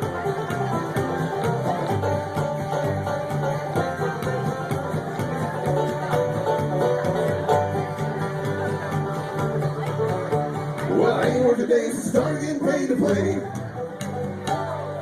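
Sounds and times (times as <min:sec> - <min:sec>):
banjo picking: 0:00.0 - 0:15.0
bass line: 0:00.0 - 0:15.0
guitar: 0:00.0 - 0:15.0.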